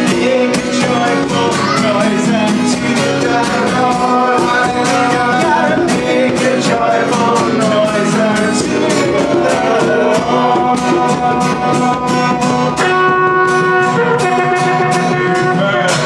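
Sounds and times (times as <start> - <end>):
band playing gospel music: 0.0 - 16.0
voices singing: 0.0 - 16.0.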